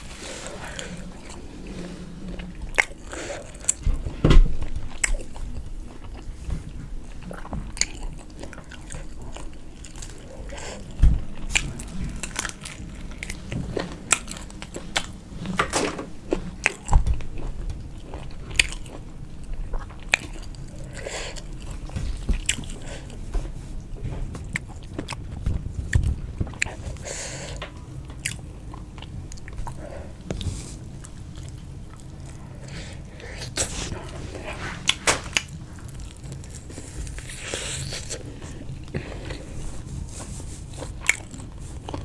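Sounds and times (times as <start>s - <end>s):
person chewing and crunching food: 4.7s - 15.5s, 16.2s - 42.0s.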